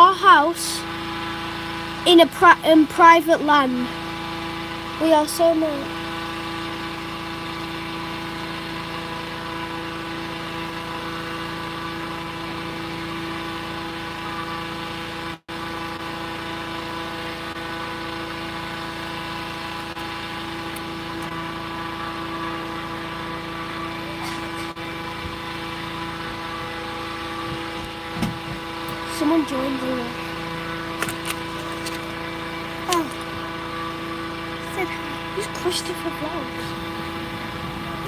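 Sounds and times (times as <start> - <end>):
inflator fan droning: 0.0 - 38.0.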